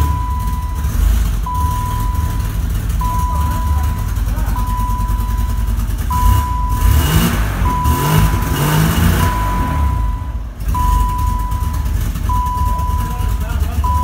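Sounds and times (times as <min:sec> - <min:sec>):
car engine revving: 0:00.0 - 0:14.0
steady electronic beep: 0:00.0 - 0:14.0.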